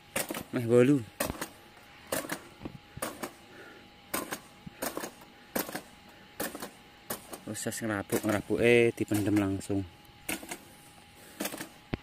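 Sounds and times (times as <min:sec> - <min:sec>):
fertilizer applicator clacking: 0:00.0 - 0:03.4, 0:04.1 - 0:10.7.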